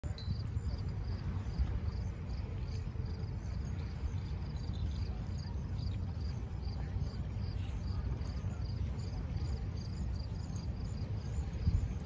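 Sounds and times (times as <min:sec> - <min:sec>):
wind buffeting microphone: 0:00.0 - 0:12.0
cricket chirping: 0:00.2 - 0:06.8, 0:07.4 - 0:12.0.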